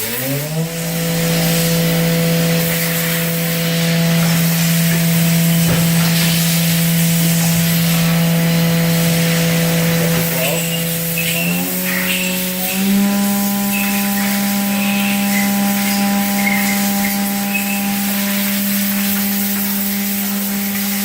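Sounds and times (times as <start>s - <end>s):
mill spindle whining: 0.0s - 21.0s.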